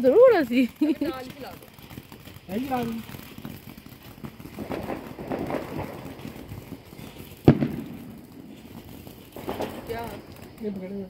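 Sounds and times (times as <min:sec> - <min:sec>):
firework bang: 0:00.1 - 0:10.6.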